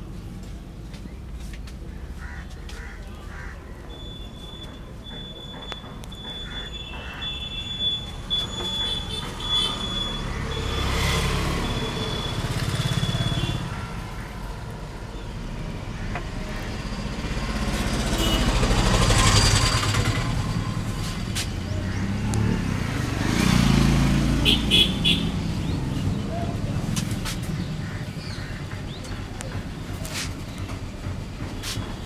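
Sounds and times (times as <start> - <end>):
vehicles passing on a road: 0.0 - 32.0.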